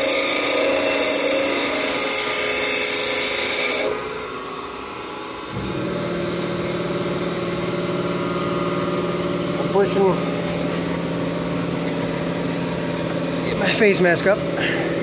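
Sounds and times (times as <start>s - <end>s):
bench grinder running: 0.0s - 15.0s
machine hum: 0.0s - 15.0s.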